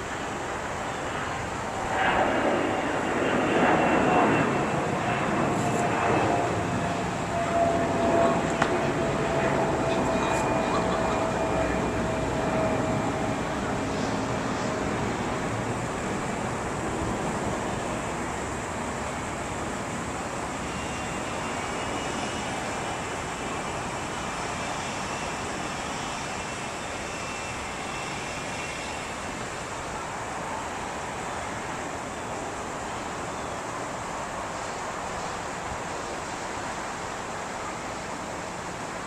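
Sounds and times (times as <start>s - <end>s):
high turbine whine: 0.0s - 39.0s
jet engines roaring: 0.0s - 39.0s.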